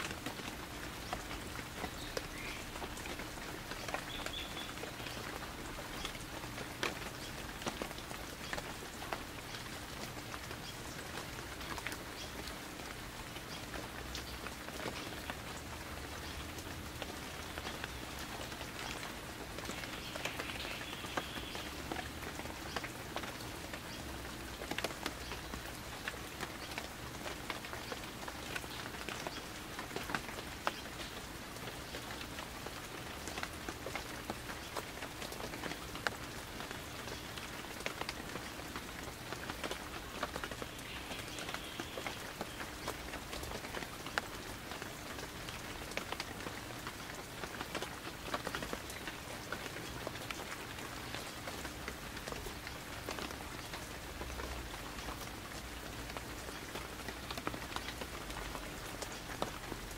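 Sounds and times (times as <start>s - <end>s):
light rain hissing: 0.0s - 59.9s
raindrops ticking on surfaces: 0.0s - 59.9s.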